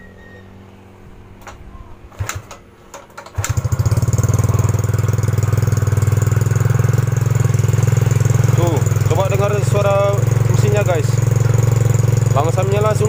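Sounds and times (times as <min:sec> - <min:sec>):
scooter engine idling: 0:02.1 - 0:13.0.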